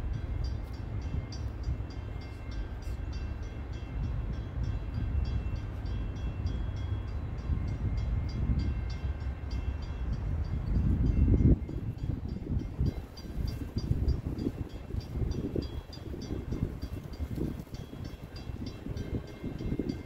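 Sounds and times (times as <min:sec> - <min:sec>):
crossing warning bell ringing: 0:00.0 - 0:20.0
train low rumble: 0:00.0 - 0:20.0.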